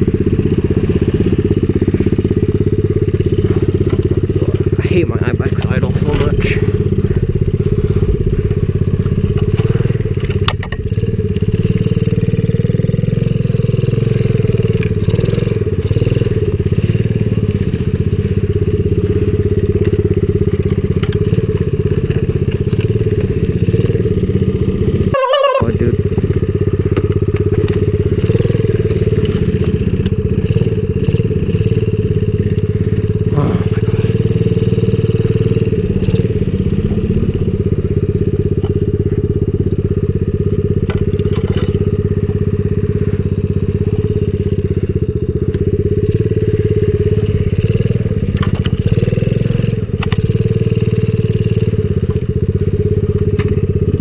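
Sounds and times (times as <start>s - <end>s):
small motorcycle engine running: 0.0s - 54.0s
brush cracking: 0.4s - 25.1s, 26.0s - 50.5s.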